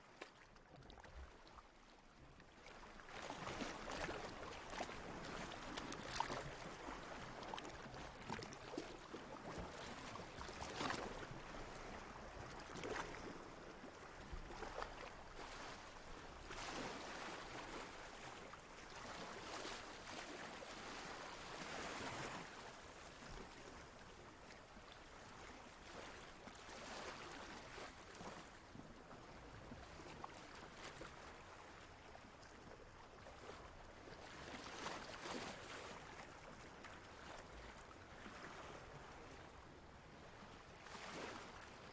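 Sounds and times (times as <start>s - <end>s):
water lapping and splashing: 0.0s - 41.9s.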